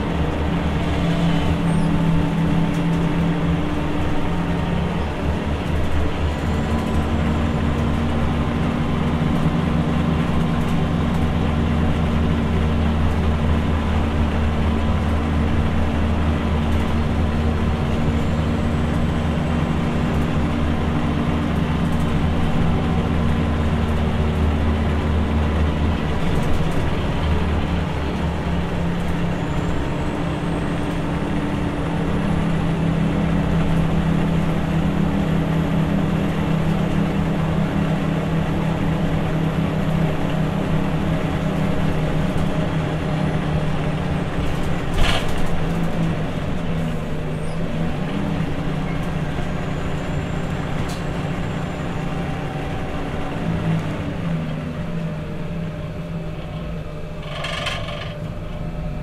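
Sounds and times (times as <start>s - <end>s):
bus engine running: 0.0s - 59.0s.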